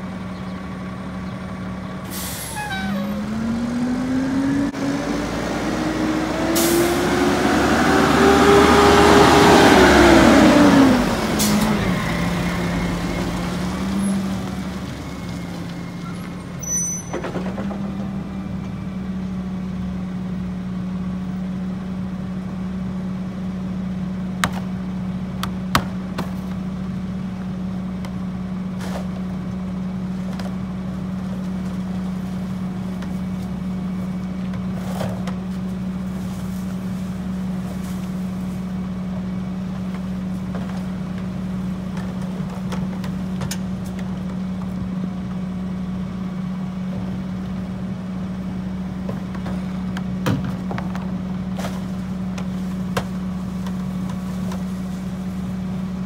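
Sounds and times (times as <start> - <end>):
garbage truck engine idling: 11.0 - 56.0.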